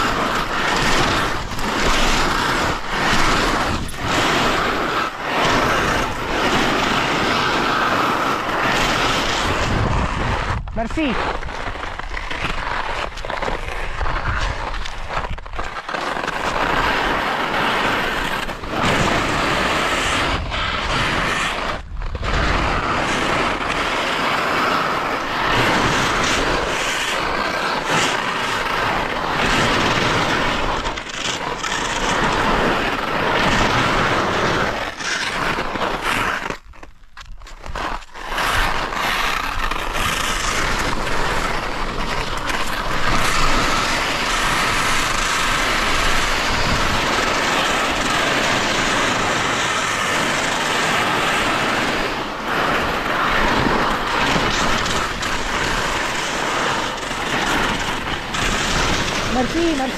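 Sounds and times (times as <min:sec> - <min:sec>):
skis scraping over snow: 0:00.0 - 0:59.9.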